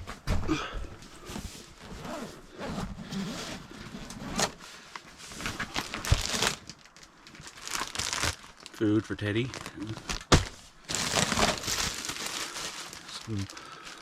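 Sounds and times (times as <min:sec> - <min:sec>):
bags rustling and scraping: 0:00.9 - 0:14.0.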